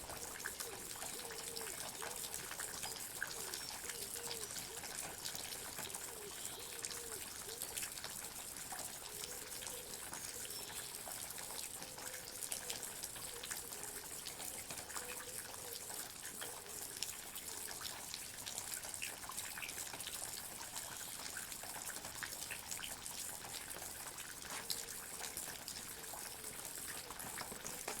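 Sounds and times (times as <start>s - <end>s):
water dripping: 0.0s - 28.0s.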